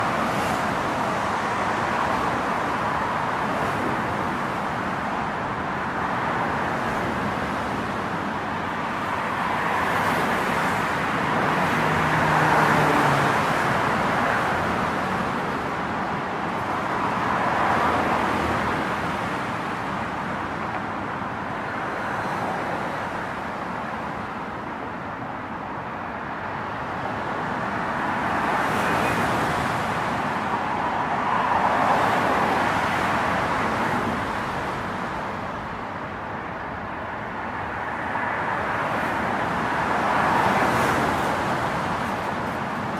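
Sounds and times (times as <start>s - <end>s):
vehicles passing: 0.0s - 42.9s.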